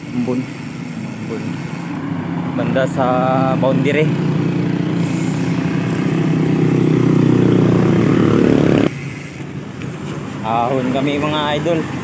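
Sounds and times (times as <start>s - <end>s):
motorcycle engine under throttle: 0.0s - 9.8s.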